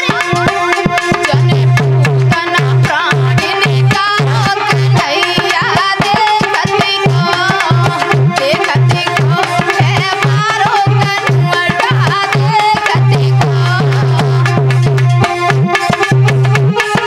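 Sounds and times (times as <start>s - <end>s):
hand drum beat: 0.0s - 17.0s.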